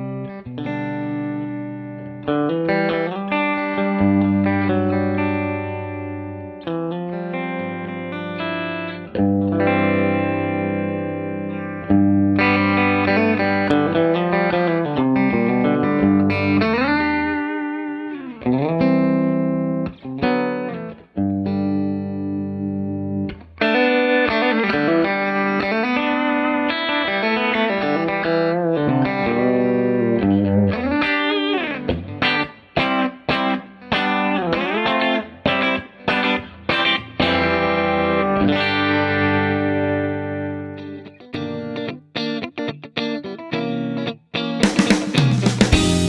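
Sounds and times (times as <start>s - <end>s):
overdriven electric guitar: 0.0s - 46.0s.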